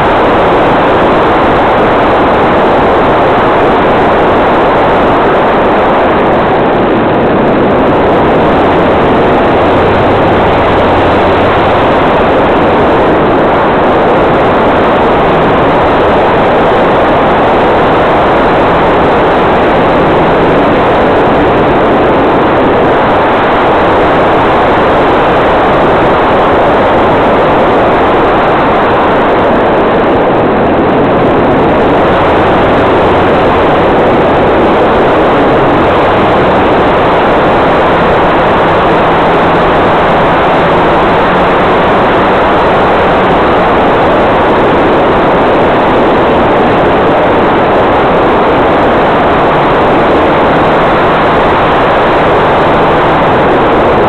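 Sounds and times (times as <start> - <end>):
airflow rushing over microphone: 0.0 - 54.0.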